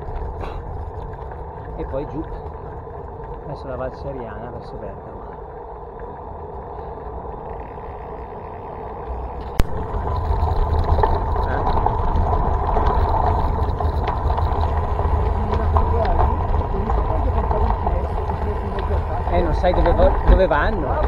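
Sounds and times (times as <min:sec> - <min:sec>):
bicycle tyre noise: 0:00.0 - 0:21.0
wind buffeting microphone: 0:00.0 - 0:21.0.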